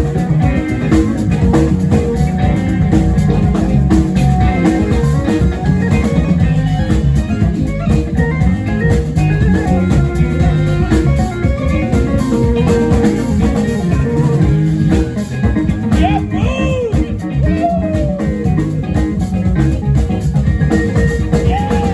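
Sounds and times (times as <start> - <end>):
bass: 0.0 - 21.9
drum kit: 0.0 - 21.9
electric guitars: 0.0 - 21.9
keyboards: 0.0 - 21.9.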